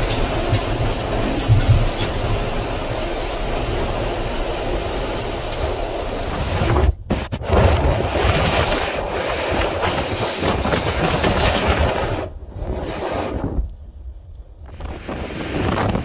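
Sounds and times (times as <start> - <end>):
train rumbling on track: 0.0 - 16.0
wind rushing over microphone: 0.0 - 16.0.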